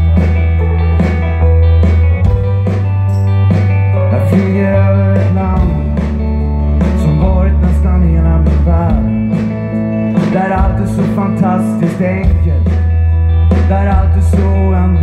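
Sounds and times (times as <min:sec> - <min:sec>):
electric guitar: 0:00.0 - 0:15.0
live rock band playing: 0:00.0 - 0:15.0.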